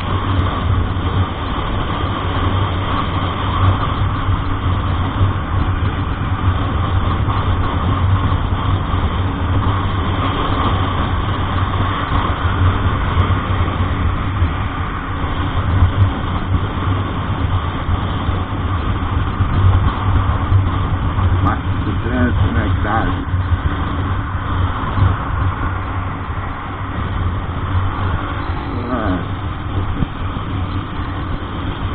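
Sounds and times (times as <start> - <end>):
road noise: 0.0 - 31.9
truck engine droning: 0.0 - 31.9.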